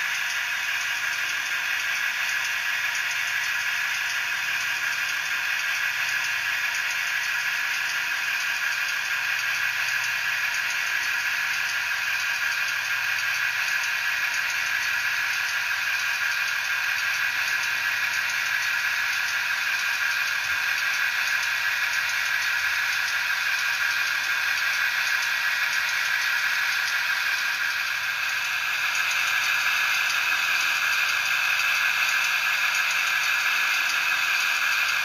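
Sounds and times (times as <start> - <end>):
diesel engine through small speaker: 0.0 - 35.0.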